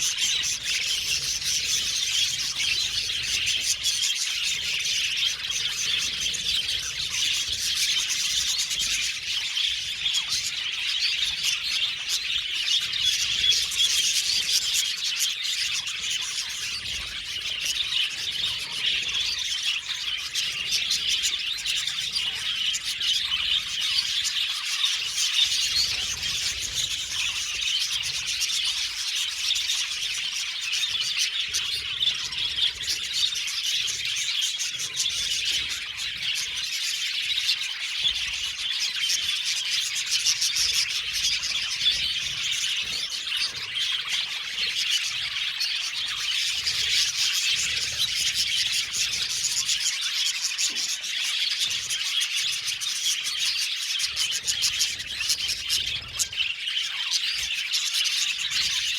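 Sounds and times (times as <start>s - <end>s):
budgerigars chirping and warbling: 0.0s - 58.9s.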